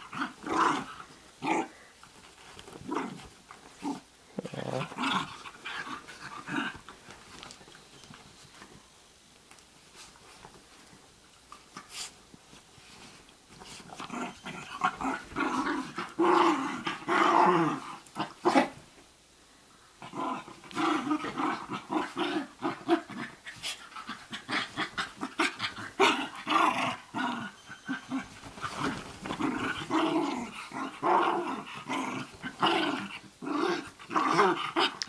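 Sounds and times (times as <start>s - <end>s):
dogs play-growling: 0.0s - 7.6s, 12.9s - 18.9s, 20.0s - 35.0s.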